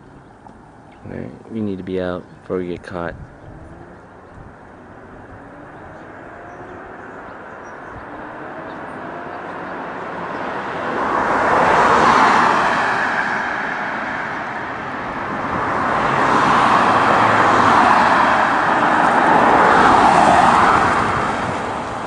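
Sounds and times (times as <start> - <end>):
car passing by: 3.3 - 22.0.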